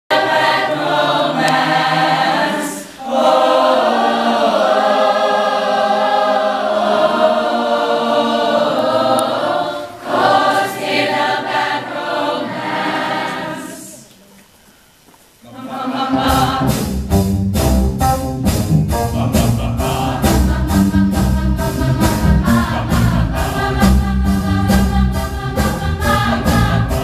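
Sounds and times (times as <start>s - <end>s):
children's choir singing in harmony: 0.1s - 14.2s, 15.4s - 17.1s, 18.9s - 27.0s.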